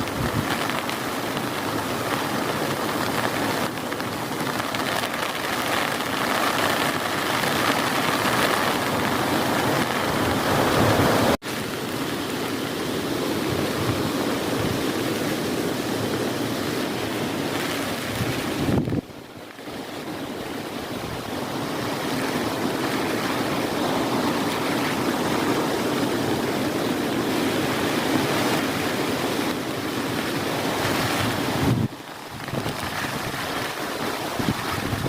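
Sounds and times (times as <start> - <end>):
heavy rain: 0.0 - 35.0.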